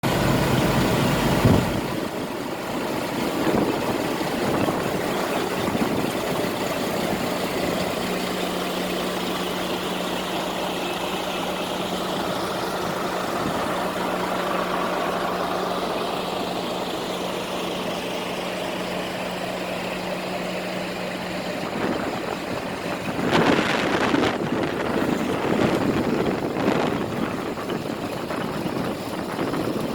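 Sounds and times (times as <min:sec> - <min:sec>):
diesel truck engine idling: 0:00.0 - 0:29.9.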